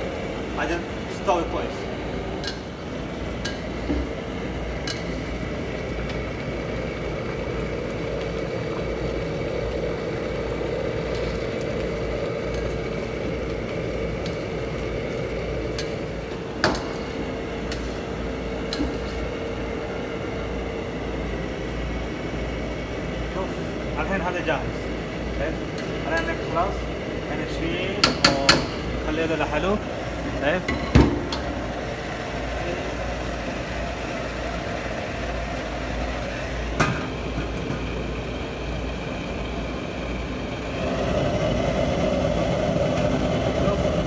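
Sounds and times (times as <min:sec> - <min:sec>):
kitchen hum: 0:00.0 - 0:44.0.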